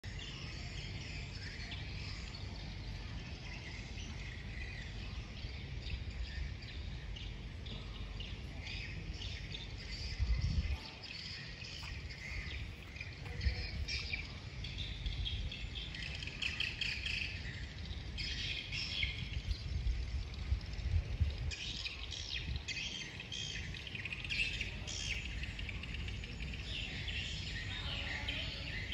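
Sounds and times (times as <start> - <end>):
birds chirping and calling: 0.1 - 28.9.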